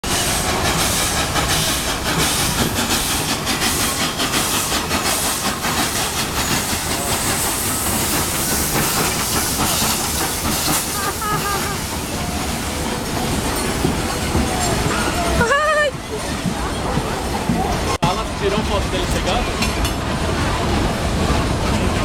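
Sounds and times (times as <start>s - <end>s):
steam hissing: 0.0s - 21.9s
steam train noise: 0.0s - 22.0s.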